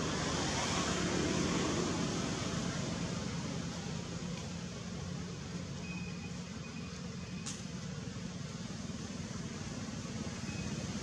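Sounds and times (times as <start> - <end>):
background rumble and hiss: 0.0 - 11.0.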